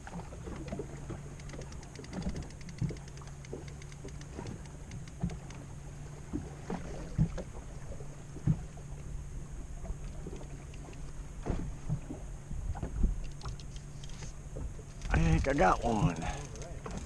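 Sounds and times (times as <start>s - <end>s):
boat engine low hum: 0.0s - 17.0s.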